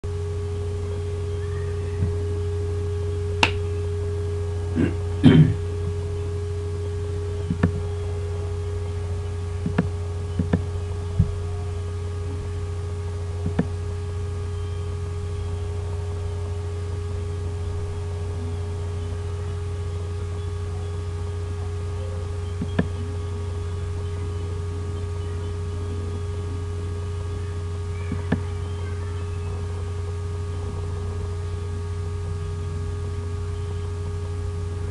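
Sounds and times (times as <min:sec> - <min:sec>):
electrical hum: 0:00.0 - 0:34.9
faint high steady tone: 0:00.0 - 0:34.9.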